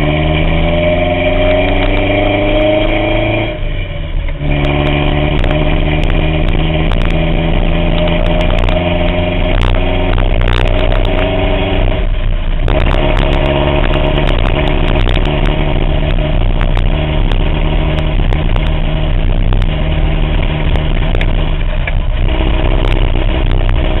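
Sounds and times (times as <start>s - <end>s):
engine running with misfire: 0.0s - 24.0s.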